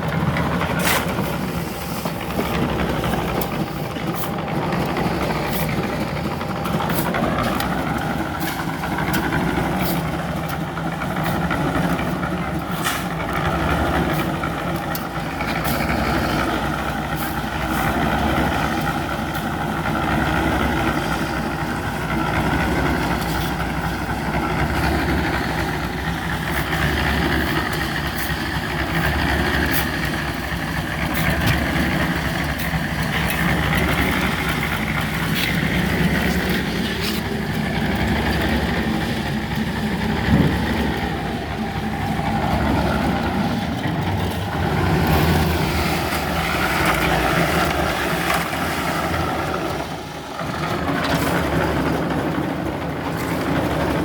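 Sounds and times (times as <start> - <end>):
construction machinery engine drone: 0.0 - 54.0.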